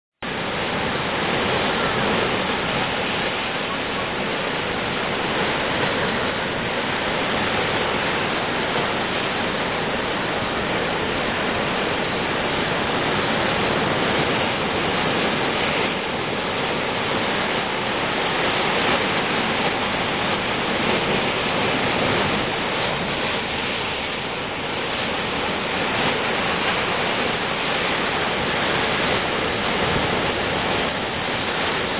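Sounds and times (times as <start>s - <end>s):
ocean surf breaking on rocks: 0.2s - 31.9s.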